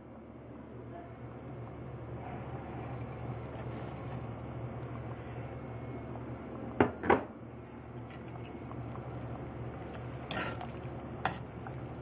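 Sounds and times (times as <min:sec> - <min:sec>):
soup simmering in a pot: 0:00.0 - 0:06.8, 0:07.5 - 0:12.0.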